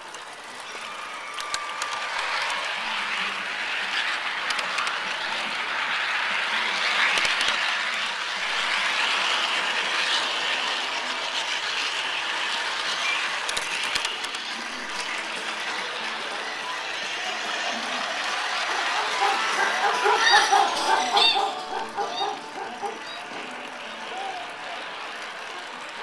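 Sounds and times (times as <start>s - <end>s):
model train wheels rattling on rail: 0.0s - 26.0s.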